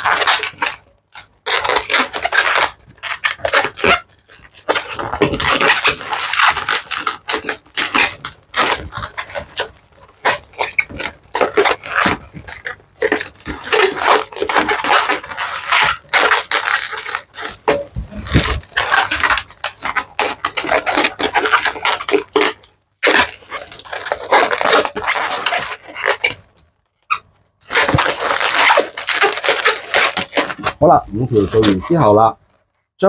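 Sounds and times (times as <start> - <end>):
balloons squeaking and rubbing: 0.0 - 33.0.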